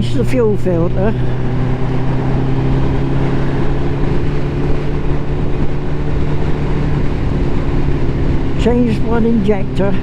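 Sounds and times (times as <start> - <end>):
motorcycle engine running: 0.0 - 10.0
wind rumbling on microphone: 0.0 - 10.0.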